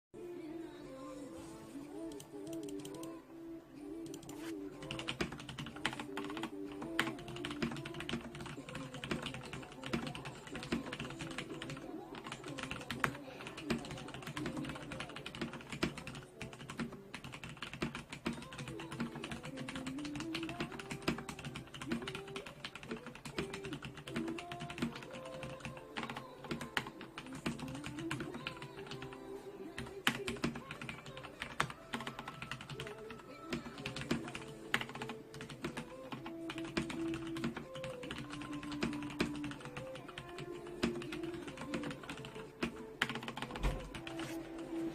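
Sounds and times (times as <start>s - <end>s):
typing on mechanical keyboard: 4.1s - 29.2s, 29.8s - 44.3s.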